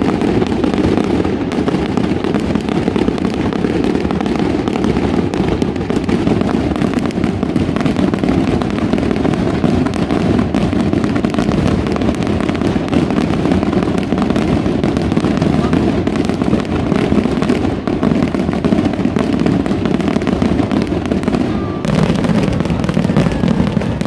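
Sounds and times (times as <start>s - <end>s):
fireworks bursting and crackling: 0.0s - 24.0s.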